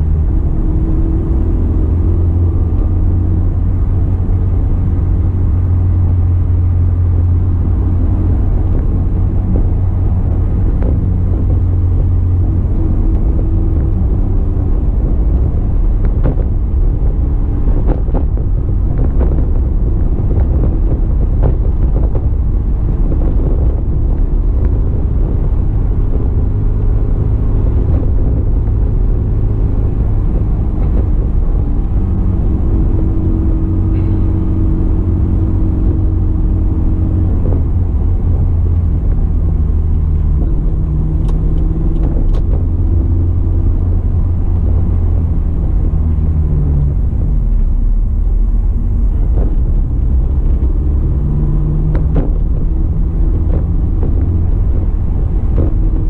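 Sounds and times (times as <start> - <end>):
car engine drone: 0.0 - 56.0
road rumble: 0.0 - 56.0.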